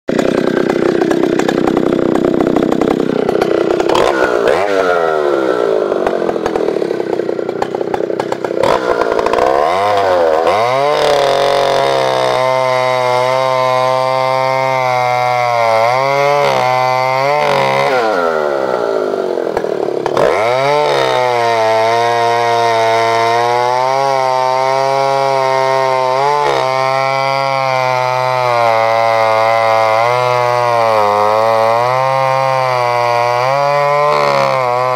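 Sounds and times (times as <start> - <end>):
chainsaw running: 0.1 - 34.9
chainsaw throttle blips: 0.1 - 34.9.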